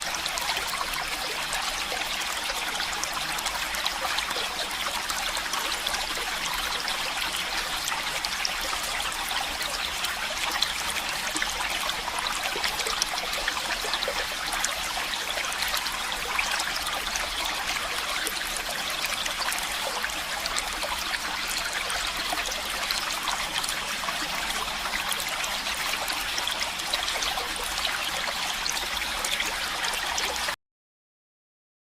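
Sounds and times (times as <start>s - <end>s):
stream water flowing: 0.0s - 30.6s.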